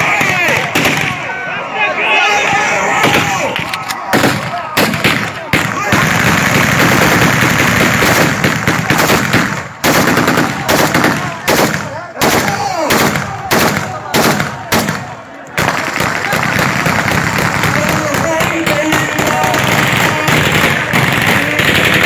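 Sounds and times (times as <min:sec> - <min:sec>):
rifle automatic burst: 0:04.1 - 0:22.0.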